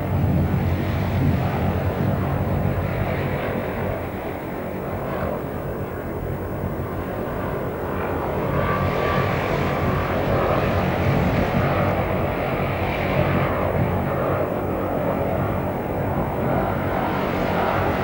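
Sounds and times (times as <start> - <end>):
plane engine and propeller: 0.0 - 18.0.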